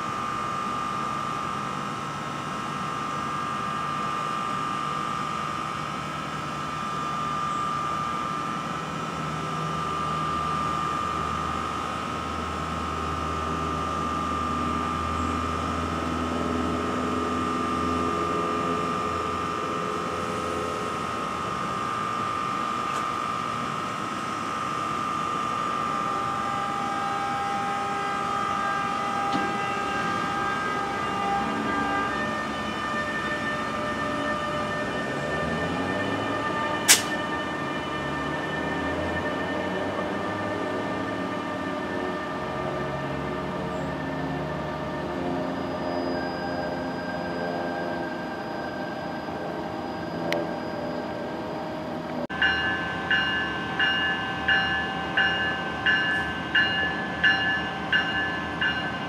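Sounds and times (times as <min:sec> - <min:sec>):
electric locomotive blowers whining: 0:00.0 - 0:59.0.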